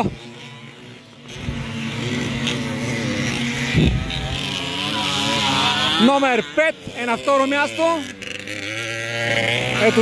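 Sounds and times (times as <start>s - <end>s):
racing motorcycle engines: 0.0s - 10.0s.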